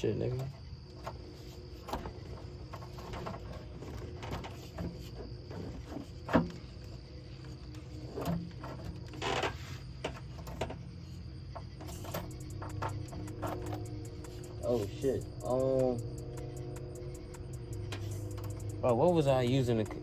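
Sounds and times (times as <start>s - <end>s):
crickets chirring: 0.0s - 20.0s
engine parts clicking and knocking: 0.0s - 20.0s.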